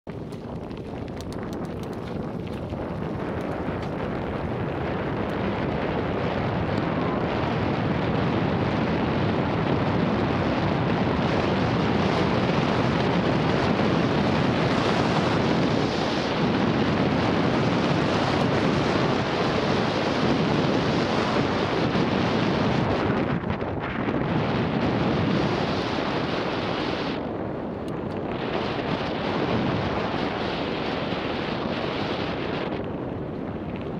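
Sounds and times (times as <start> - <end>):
bicycle tyres rolling over gravel: 0.1 - 33.9
wind buffeting microphone: 0.1 - 33.9.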